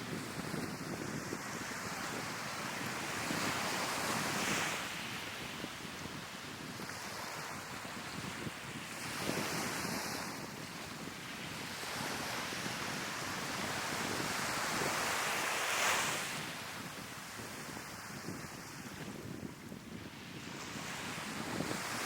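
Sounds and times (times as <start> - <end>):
sea waves breaking on shore: 0.0 - 22.0
wind buffeting microphone: 0.0 - 22.0.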